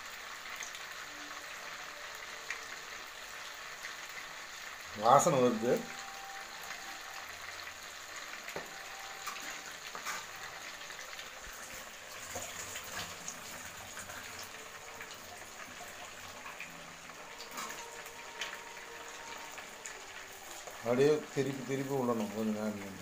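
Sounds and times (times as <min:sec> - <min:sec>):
fish deep-frying in oil: 0:00.0 - 0:23.0.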